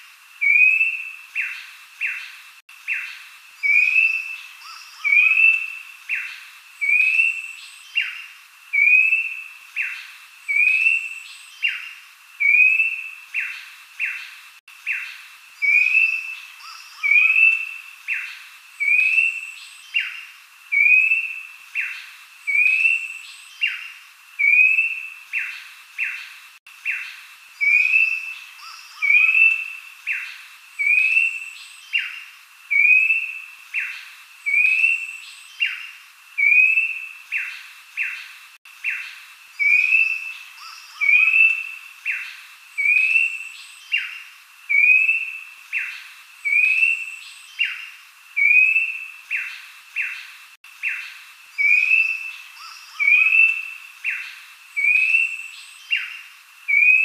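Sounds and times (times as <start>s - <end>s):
bird whistled song: 0.4s - 57.0s.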